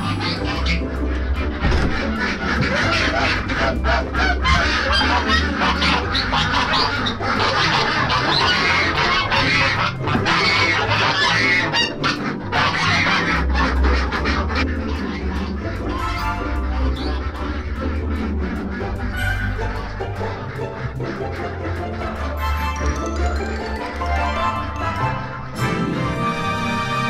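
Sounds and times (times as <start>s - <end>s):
ducks quacking: 0.0s - 27.0s
geese honking: 0.0s - 27.0s
music with bass: 0.0s - 27.0s.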